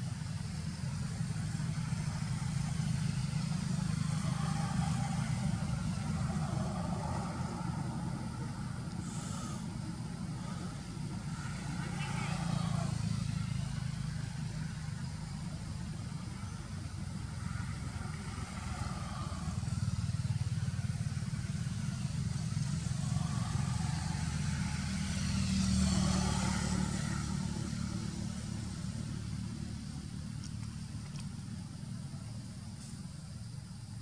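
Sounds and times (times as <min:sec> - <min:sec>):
vehicle engine rumble: 0:00.0 - 0:34.0
vehicle passing close: 0:00.4 - 0:33.4.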